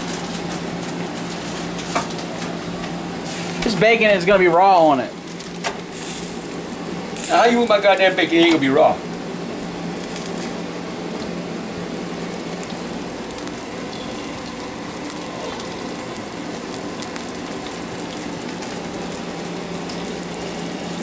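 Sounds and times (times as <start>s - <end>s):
bacon sizzling in a frying pan: 0.0s - 21.0s.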